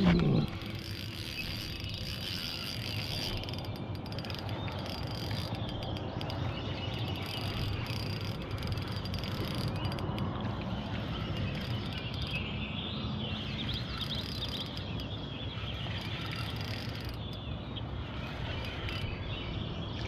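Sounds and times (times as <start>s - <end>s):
insects droning: 0.0s - 12.6s, 13.4s - 19.2s.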